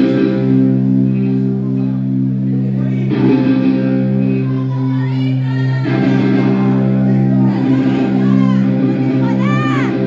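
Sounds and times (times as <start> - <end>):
electric guitar chords: 0.0 - 10.0
guitar slide: 0.0 - 10.0
live rock band playing: 0.0 - 10.0.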